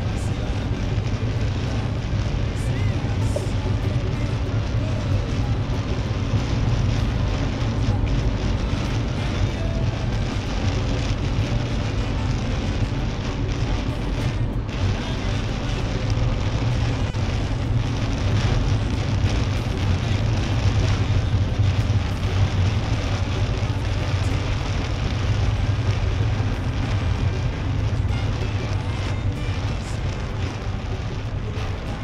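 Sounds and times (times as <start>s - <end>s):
rain pattering on car roof: 0.0s - 32.0s
tyres droning on wet road: 0.0s - 32.0s.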